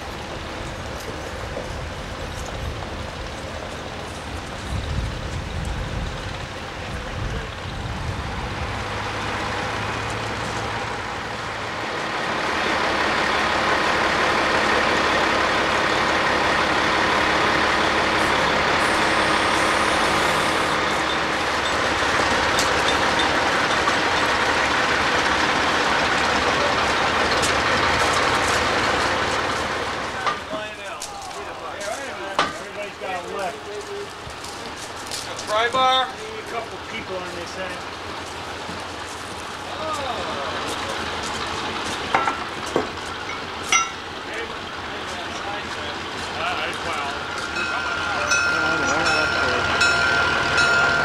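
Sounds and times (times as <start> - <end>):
diesel truck engine rumbling: 0.0 - 51.0.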